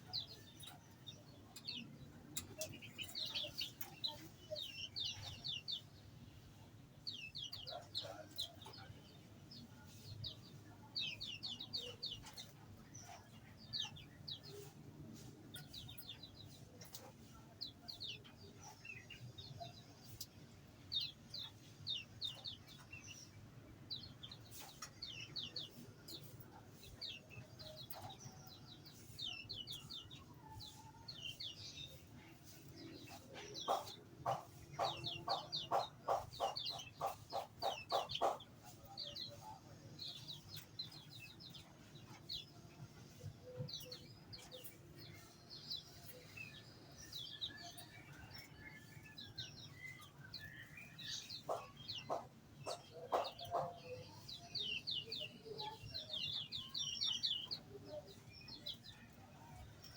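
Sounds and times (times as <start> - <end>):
small birds twittering: 0.0 - 59.9.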